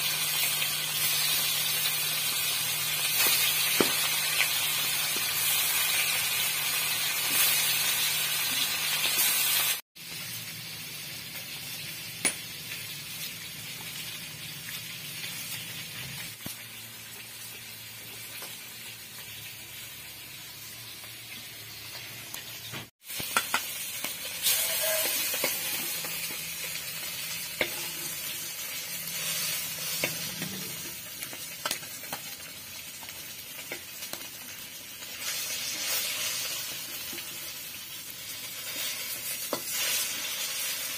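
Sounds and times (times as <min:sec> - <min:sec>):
fish sizzling in hot oil: 0:00.0 - 0:40.9.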